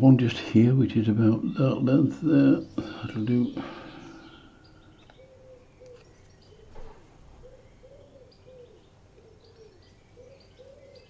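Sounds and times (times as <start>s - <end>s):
small birds chirping: 0.5s - 11.0s
pigeon cooing: 1.2s - 11.0s.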